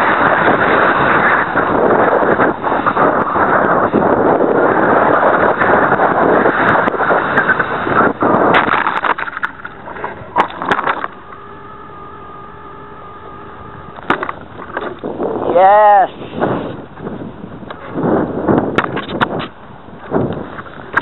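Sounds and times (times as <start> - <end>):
steady multi-tone hum: 0.0 - 21.0
wind and motor rush: 0.0 - 21.0.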